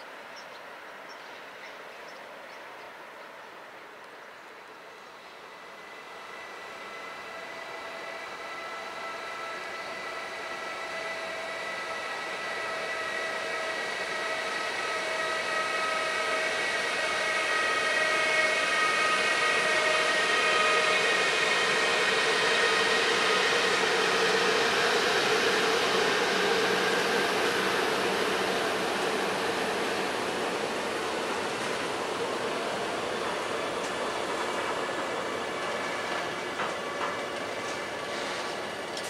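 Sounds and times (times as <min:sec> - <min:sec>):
electric locomotive whine: 0:00.0 - 0:39.0.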